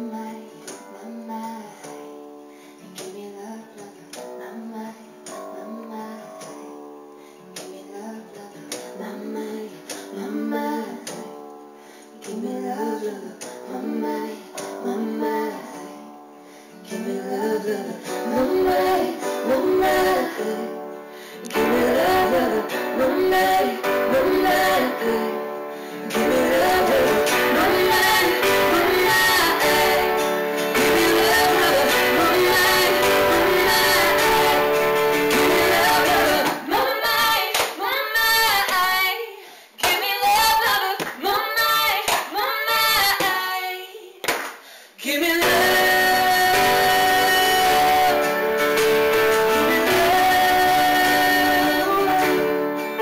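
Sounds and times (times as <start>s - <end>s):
woman singing: 0.0s - 2.0s, 2.8s - 6.6s, 7.4s - 11.3s, 12.2s - 16.1s, 16.8s - 44.2s, 45.0s - 52.8s
piano: 0.0s - 39.2s, 45.2s - 53.0s
acoustic guitar: 0.0s - 53.0s.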